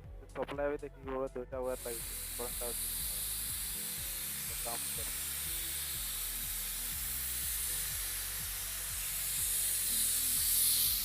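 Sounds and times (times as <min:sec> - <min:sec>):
air compressor hiss: 0:01.6 - 0:11.0.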